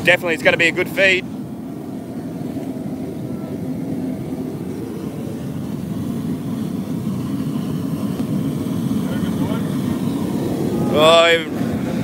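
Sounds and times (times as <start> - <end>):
gas burner roaring: 0.0 - 12.0.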